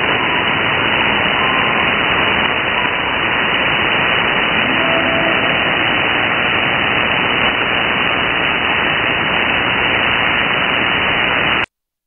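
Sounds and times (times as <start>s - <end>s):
shortwave radio static hiss: 0.0s - 11.7s.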